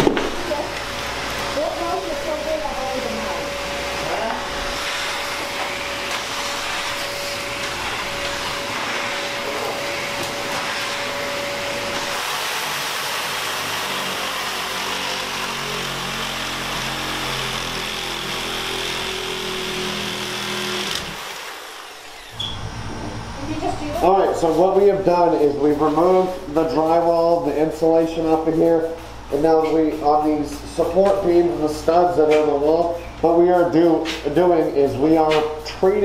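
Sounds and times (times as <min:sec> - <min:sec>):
machine hissing and humming: 0:00.0 - 0:36.0.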